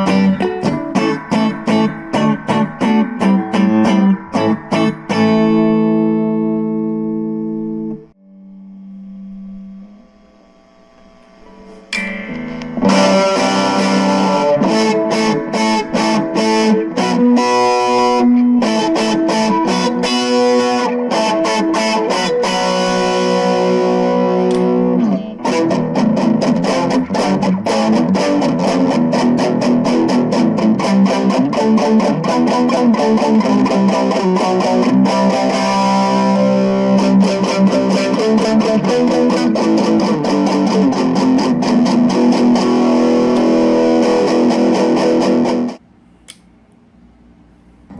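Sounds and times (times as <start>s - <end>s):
distorted electric guitar playing: 0.0s - 45.8s.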